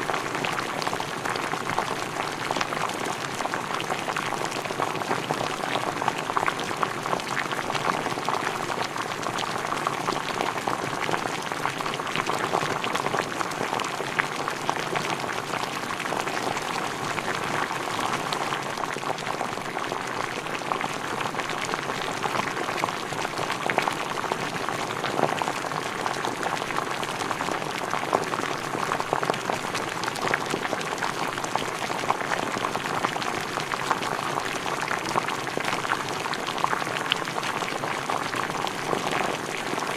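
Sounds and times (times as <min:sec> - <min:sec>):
food boiling in a pot: 0:00.0 - 0:39.9.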